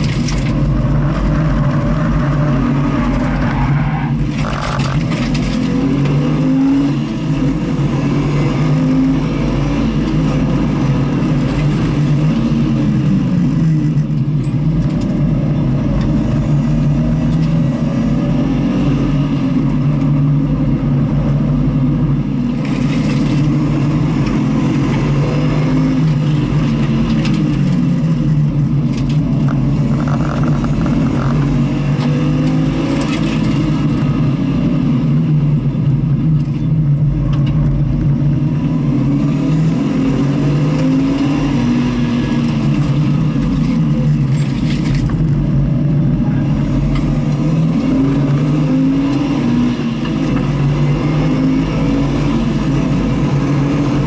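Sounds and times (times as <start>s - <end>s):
race car engine revving: 0.0s - 54.0s
wind and road noise rumble: 0.0s - 54.0s.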